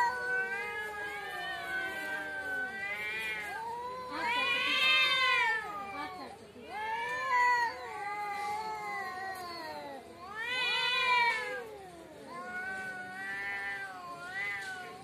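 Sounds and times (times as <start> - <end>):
cats yowling: 0.0 - 15.0.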